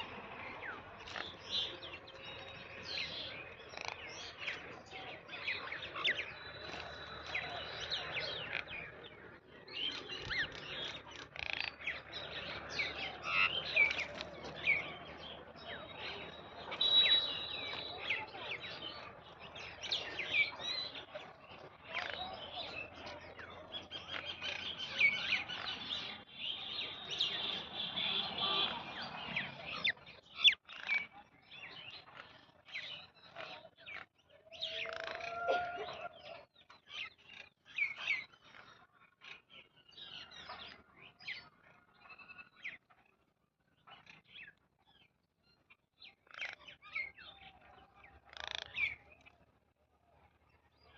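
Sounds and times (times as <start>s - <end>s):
birds chirping and calling: 0.0s - 50.9s.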